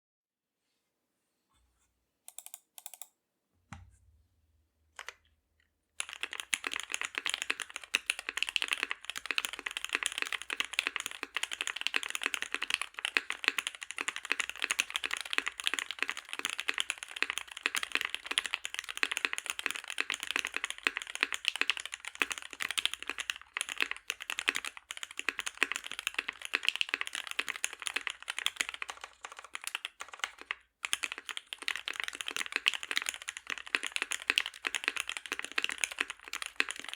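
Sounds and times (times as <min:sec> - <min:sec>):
mechanical keyboard typing: 0:02.3 - 0:03.1, 0:05.0 - 0:05.2, 0:06.0 - 0:36.9.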